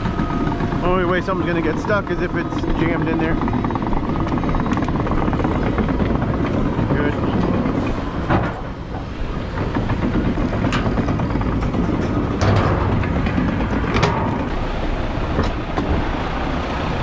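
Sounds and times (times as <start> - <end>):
debris rattling: 0.0 - 16.1
truck engine running: 0.0 - 17.0.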